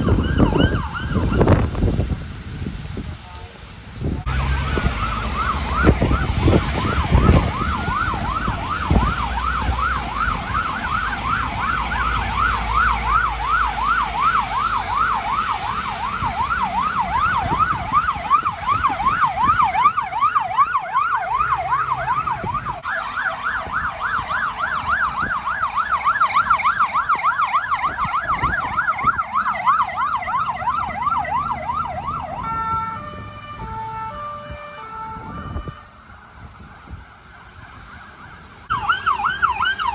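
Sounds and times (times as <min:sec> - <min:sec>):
siren yelping: 0:00.0 - 0:01.7, 0:04.3 - 0:39.9
two-tone siren: 0:00.0 - 0:01.7, 0:04.3 - 0:39.9
traffic rumble: 0:00.0 - 0:39.9.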